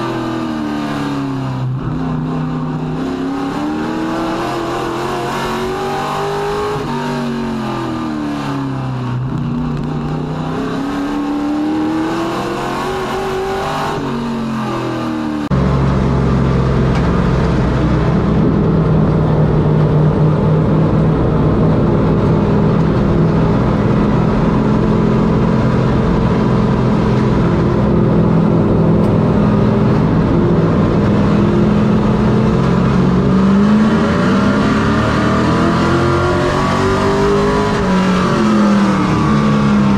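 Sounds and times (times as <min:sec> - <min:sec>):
race truck engine: 0:00.0 - 0:39.9.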